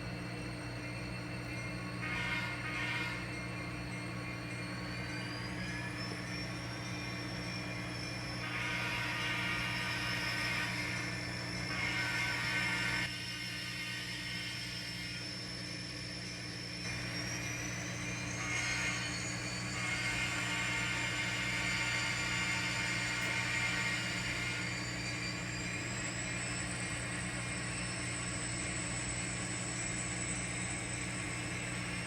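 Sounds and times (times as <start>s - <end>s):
model train engine and motor whir: 0.0s - 32.0s
thin high whine rising in pitch: 0.0s - 32.0s.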